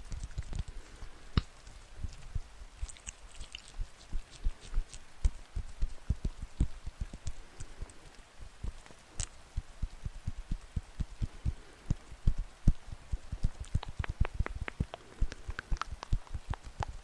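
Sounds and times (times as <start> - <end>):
raindrops thudding near microphone: 0.0 - 17.0.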